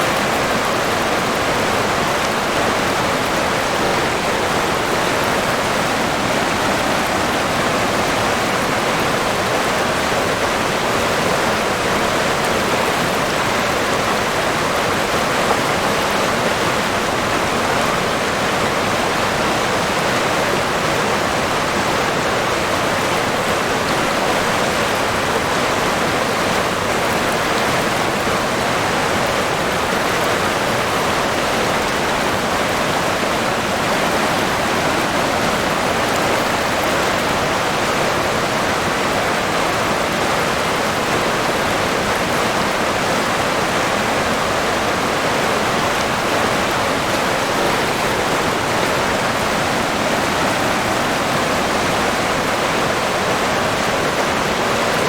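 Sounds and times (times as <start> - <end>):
river water splashing over rocks: 0.0 - 55.0.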